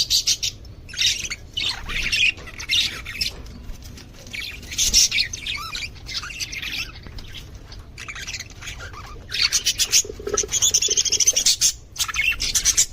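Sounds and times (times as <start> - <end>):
budgerigars chattering and squawking: 0.0 - 3.6, 4.2 - 12.9.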